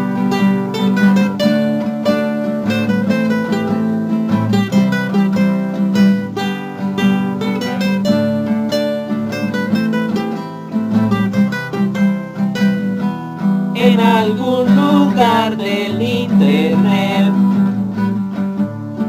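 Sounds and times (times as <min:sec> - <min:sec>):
instrumental guitar music: 0:00.0 - 0:19.0.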